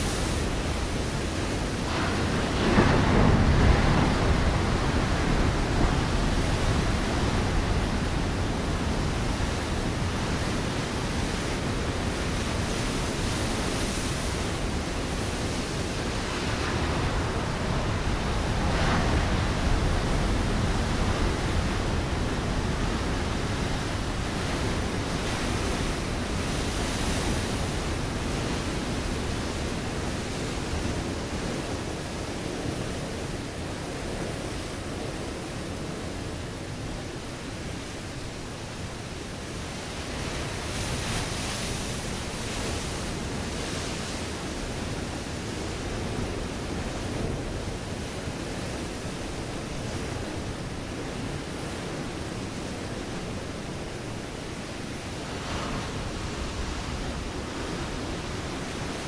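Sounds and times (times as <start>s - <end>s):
ocean waves breaking on rocks: 0.0s - 59.0s.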